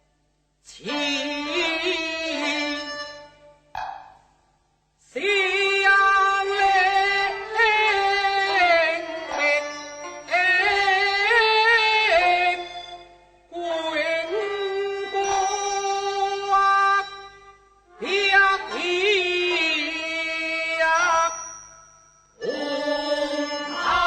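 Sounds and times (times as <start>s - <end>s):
opera music with vibrato melody: 0.8s - 4.1s, 5.2s - 24.0s.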